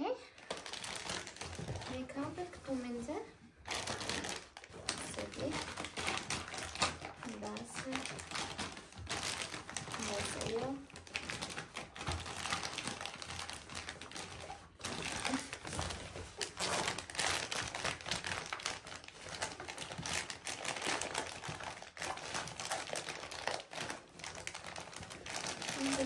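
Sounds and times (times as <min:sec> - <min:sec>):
bags rustling and crinkling: 0:00.3 - 0:26.0.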